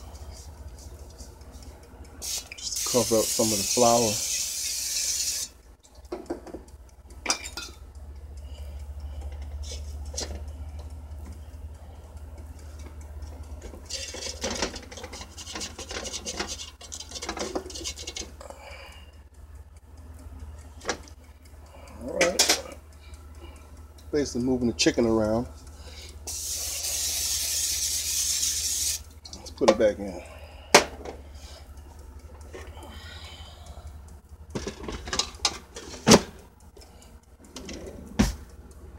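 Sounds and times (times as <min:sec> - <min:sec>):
low steady hum: 0:00.0 - 0:04.6, 0:05.4 - 0:27.6, 0:28.6 - 0:38.9.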